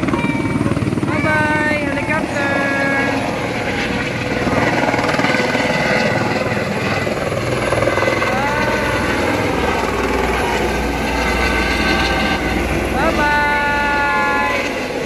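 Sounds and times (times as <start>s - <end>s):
helicopter engine running: 0.0s - 15.0s
helicopter rotor blades chopping: 0.0s - 15.0s.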